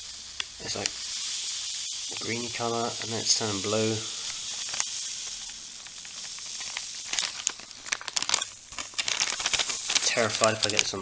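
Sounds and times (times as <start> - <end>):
soft steady hiss: 0.0 - 11.0
plastic pouch crinkling: 2.1 - 11.0.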